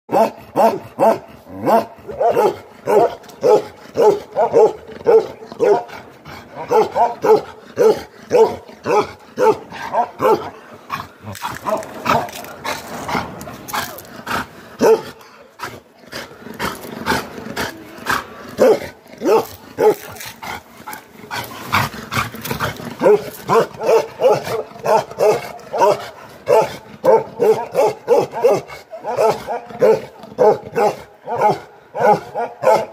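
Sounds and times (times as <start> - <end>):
dog barking aggressively: 0.1 - 15.8, 18.1 - 20.6, 21.3 - 32.9.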